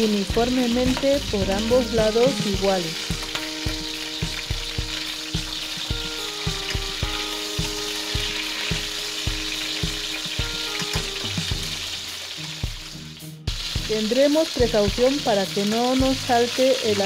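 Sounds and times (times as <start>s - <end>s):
meat sizzling in oil: 0.0s - 17.0s
soft background music with beat: 0.0s - 17.0s.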